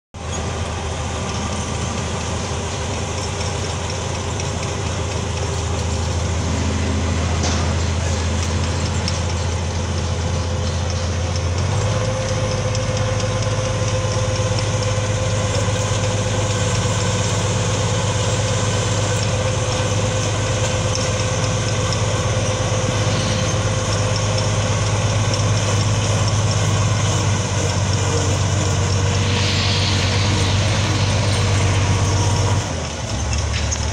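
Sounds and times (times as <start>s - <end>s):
diesel engine running: 0.2s - 33.9s
steady whine: 0.5s - 11.3s, 13.8s - 33.9s.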